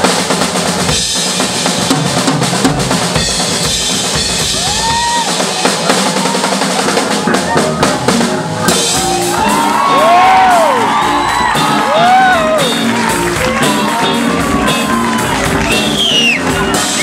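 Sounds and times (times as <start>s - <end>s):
drum kit solo: 0.0s - 17.0s.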